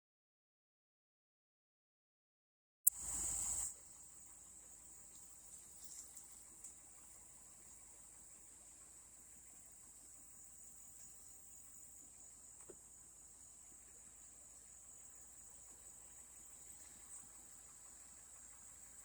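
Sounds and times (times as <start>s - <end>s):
faint high-pitched hiss: 2.9s - 19.0s
faint ticks: 2.9s - 19.0s.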